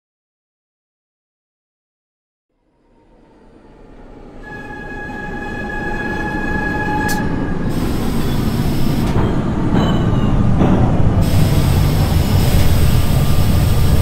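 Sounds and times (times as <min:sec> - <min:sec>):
subway train rumbling: 0:02.5 - 0:14.0
high-pitched squeal: 0:02.6 - 0:14.0.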